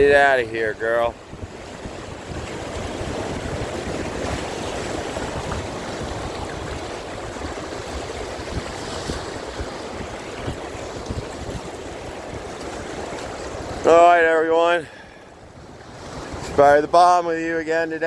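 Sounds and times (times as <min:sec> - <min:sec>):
ocean surf against rocks: 0:00.0 - 0:18.0
wind rumbling on microphone: 0:00.0 - 0:18.0.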